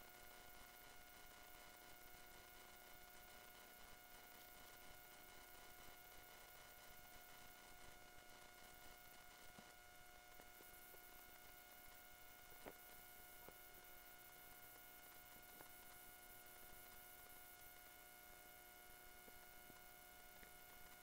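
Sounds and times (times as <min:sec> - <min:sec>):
faint electronic hum: 0:00.0 - 0:21.0.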